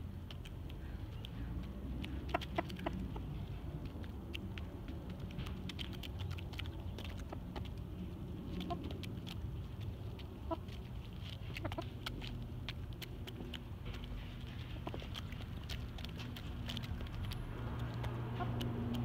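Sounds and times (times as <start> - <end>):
hens pecking dirt: 0.0 - 19.0
hens clucking softly: 0.6 - 3.7, 5.2 - 19.0.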